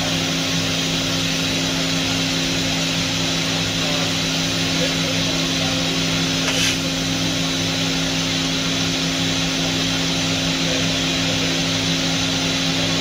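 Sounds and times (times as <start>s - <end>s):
machining centre running: 0.0s - 13.0s.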